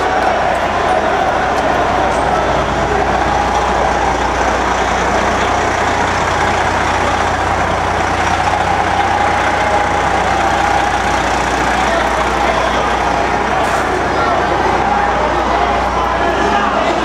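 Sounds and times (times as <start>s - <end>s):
vehicle engines idling: 0.0s - 17.0s.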